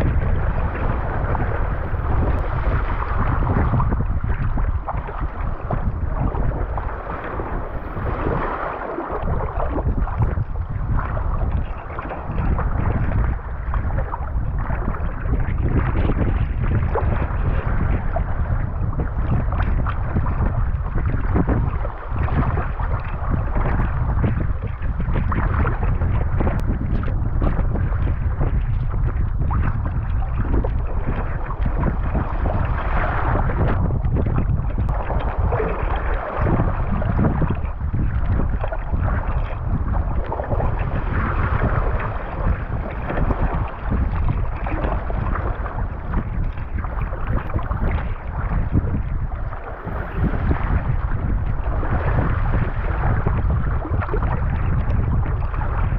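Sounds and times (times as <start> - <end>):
water sloshing around kayak: 0.0 - 55.9
wind buffeting microphone: 0.0 - 55.9.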